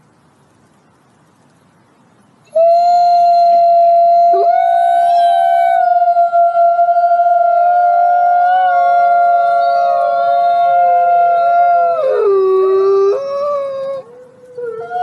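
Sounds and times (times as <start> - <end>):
faint hiss: 0.0 - 15.0
wolf howling: 2.5 - 15.0.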